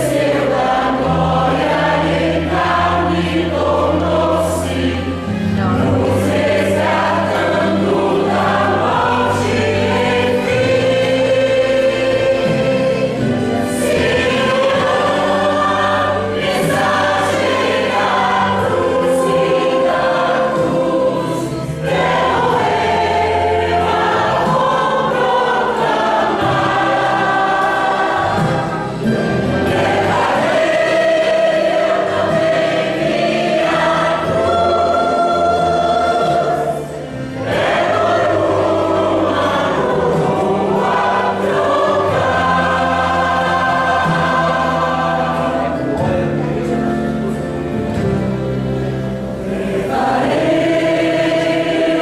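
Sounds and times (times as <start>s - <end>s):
choir singing gospel: 0.0s - 52.0s.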